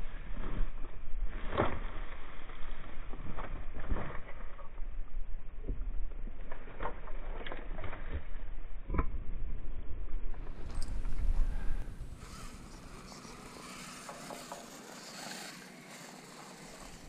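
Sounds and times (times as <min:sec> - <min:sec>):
toy car tumbling down dirt slope: 0:00.1 - 0:09.5, 0:10.4 - 0:17.0.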